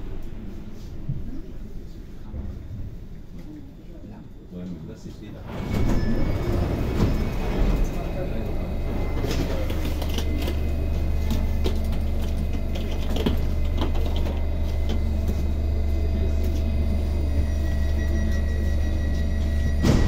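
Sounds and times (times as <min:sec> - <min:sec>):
low hum of train equipment: 0:00.0 - 0:20.0.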